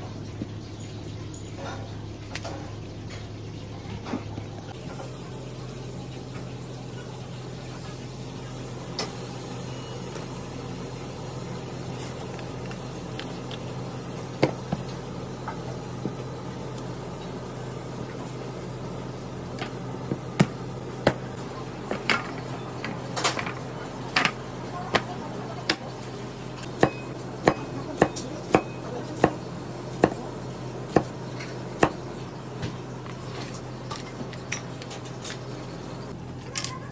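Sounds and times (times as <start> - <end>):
kitchen machine hum: 0.0 - 36.9.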